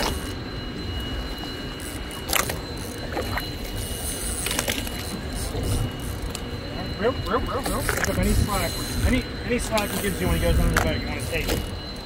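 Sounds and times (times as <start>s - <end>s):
water moving along hull: 0.0s - 11.9s
boat engine running low: 0.0s - 12.0s.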